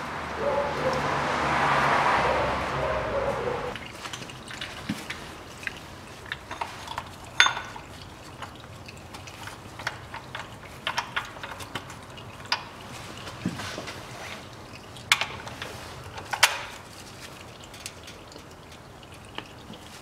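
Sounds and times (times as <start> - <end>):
oil trickling into metal pan: 3.8 - 20.0.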